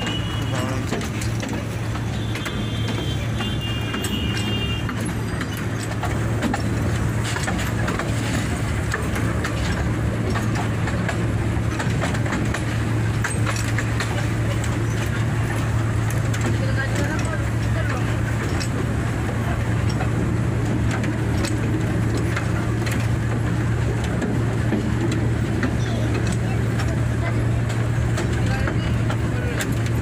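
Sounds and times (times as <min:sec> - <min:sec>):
wheels clicking and clattering: 0:00.0 - 0:30.0.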